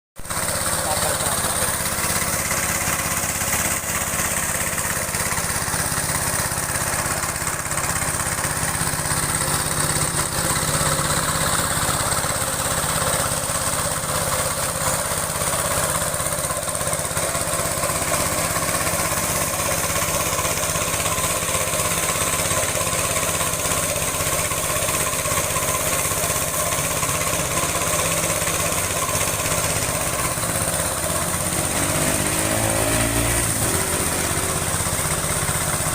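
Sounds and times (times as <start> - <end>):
small engine running steadily: 0.2 - 35.9.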